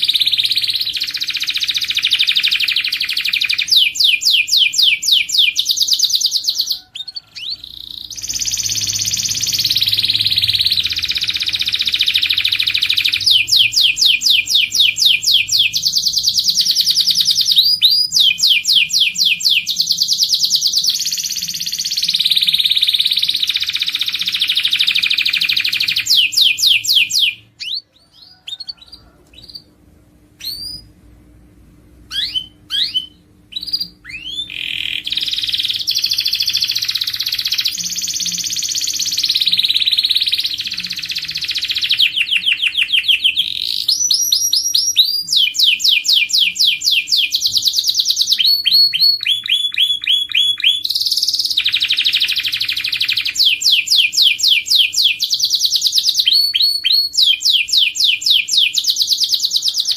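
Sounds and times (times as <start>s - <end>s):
canary singing trills: 0.0s - 31.0s, 32.1s - 59.9s.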